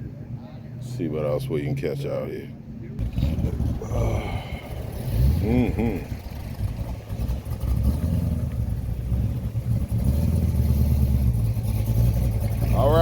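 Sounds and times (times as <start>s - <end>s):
car engine running at low revs: 2.6s - 13.0s.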